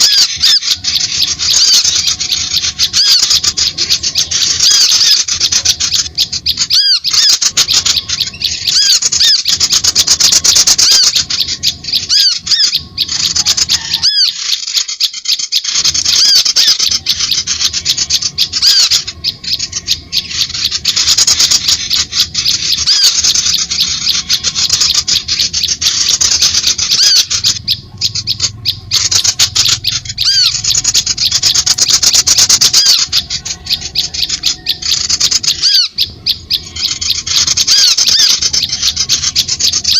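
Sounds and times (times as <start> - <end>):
birds rattling chatter: 0.0 - 39.9.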